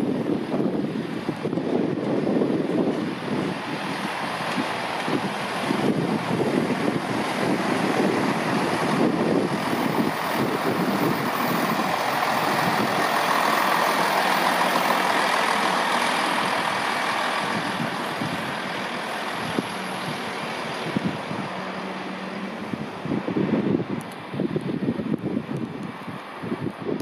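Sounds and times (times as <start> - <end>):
diesel train passing: 0.0 - 26.9.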